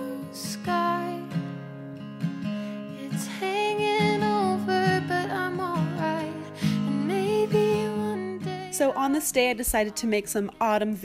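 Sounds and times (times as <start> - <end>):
woman singing: 0.0 - 1.7, 2.6 - 11.0
acoustic guitar: 0.0 - 11.0.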